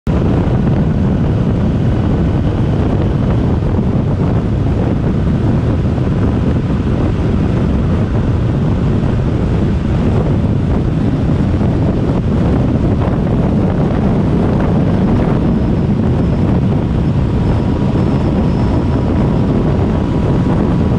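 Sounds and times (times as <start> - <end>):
road noise: 0.0 - 20.9
wind buffeting microphone: 0.0 - 20.9
motorcycle engine: 0.1 - 20.9.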